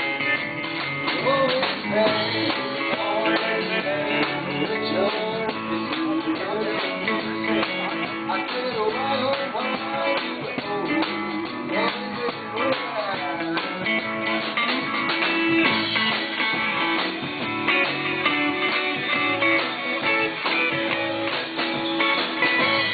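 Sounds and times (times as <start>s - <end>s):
gliding guitar notes: 0.0s - 22.9s
rock band playing: 0.0s - 22.9s.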